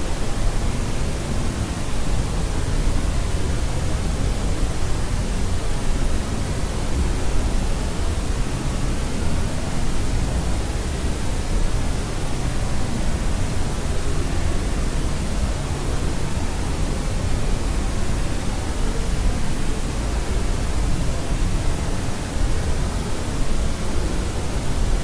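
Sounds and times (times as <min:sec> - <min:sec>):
white noise hiss: 0:00.0 - 0:25.0.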